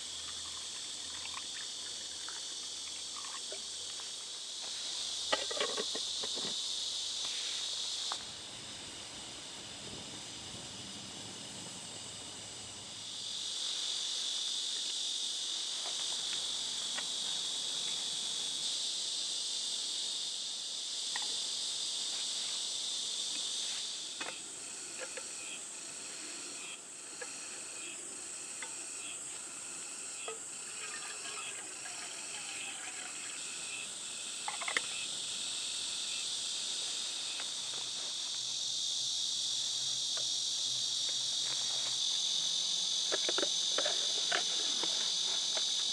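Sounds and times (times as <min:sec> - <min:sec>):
insect pulsing chirp: 0:00.0 - 0:45.9
insects trilling: 0:00.0 - 0:45.9.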